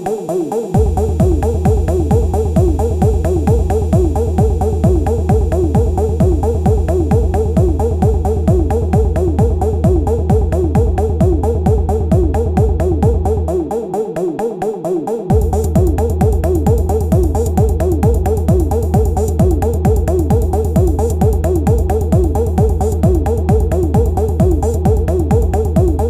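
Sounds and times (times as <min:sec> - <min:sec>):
ticking hi-hats: 0:00.0 - 0:26.0
heavy low bass: 0:00.8 - 0:13.7, 0:15.3 - 0:26.0.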